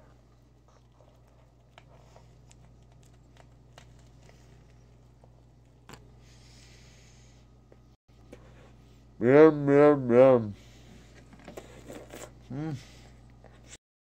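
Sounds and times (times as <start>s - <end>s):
low electrical hum: 0.0s - 13.8s.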